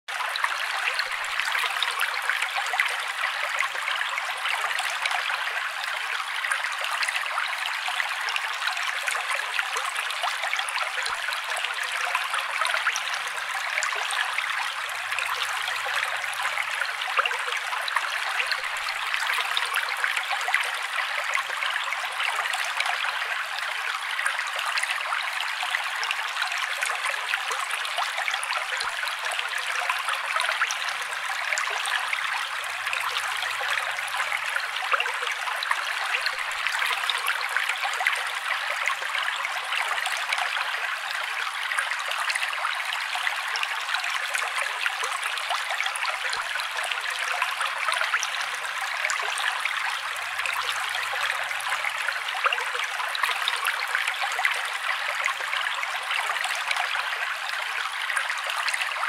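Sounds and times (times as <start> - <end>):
water bubbling and trickling: 0.1 - 59.0.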